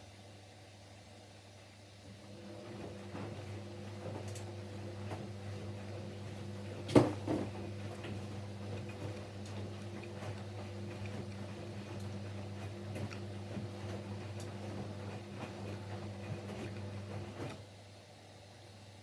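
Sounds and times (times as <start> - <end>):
washing machine drum motor humming: 2.1 - 17.8.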